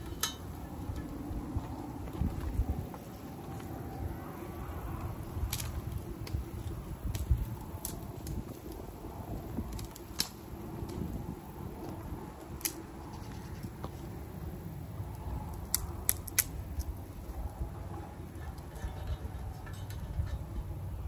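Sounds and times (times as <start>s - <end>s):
stove low rumble: 0.0s - 21.0s
wood fire popping and crackling: 0.0s - 21.0s.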